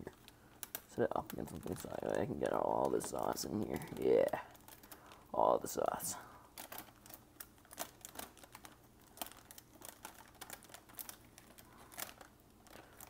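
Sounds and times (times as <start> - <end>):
hands handling small objects: 0.0 - 13.0.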